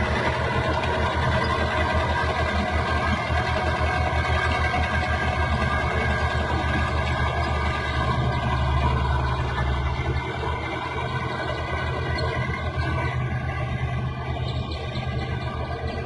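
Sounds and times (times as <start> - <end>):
bulldozer diesel engine rumbling: 0.0 - 16.0.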